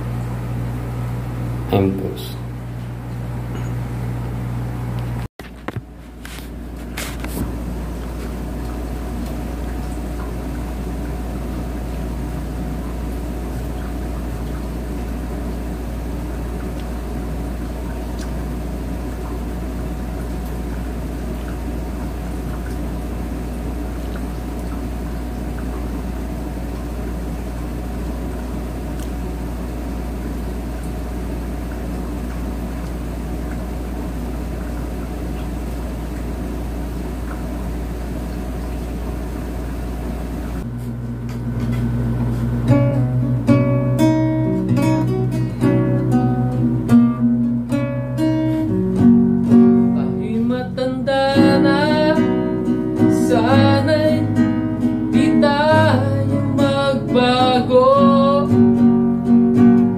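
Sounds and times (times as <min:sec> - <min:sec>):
low rumbling hum: 0:00.0 - 0:59.3.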